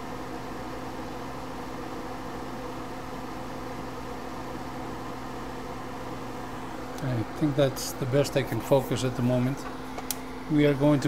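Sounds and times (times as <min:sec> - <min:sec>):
extractor fan whirring: 0:00.0 - 0:11.0.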